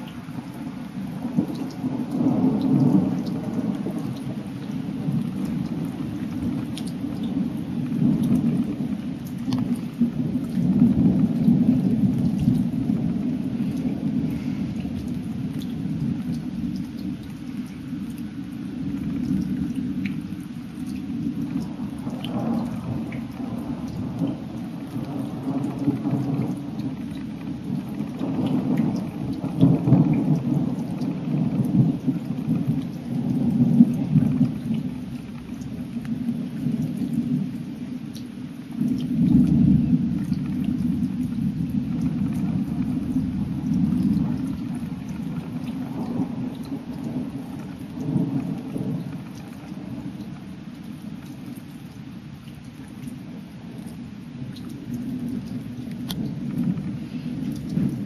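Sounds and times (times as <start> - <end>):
thunder rumbling: 0.0 - 37.6, 38.7 - 58.0
rain pattering: 0.0 - 58.0.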